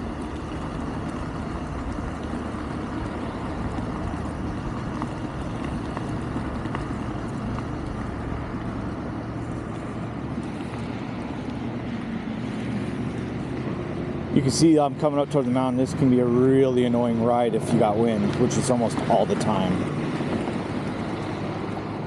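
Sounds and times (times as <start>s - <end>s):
electric scooter riding noise: 0.0s - 22.0s.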